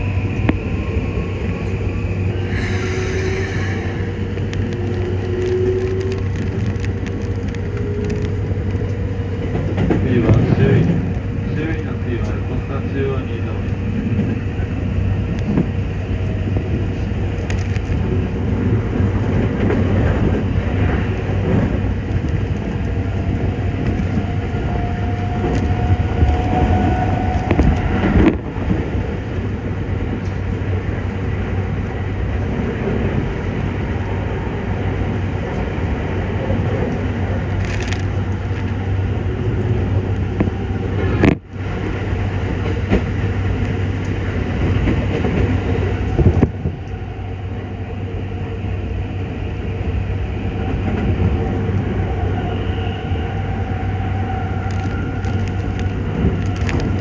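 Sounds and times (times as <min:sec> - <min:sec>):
train wheels rumbling on rail: 0:00.0 - 0:57.0
rain crackling on train: 0:02.5 - 0:14.4, 0:15.2 - 0:47.0, 0:54.5 - 0:57.0.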